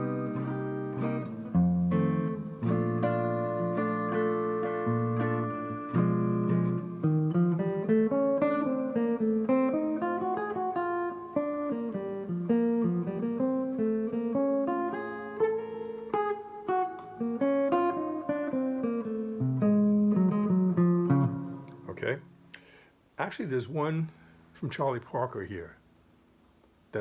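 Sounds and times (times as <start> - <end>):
jazz guitar line: 0.0 - 22.8.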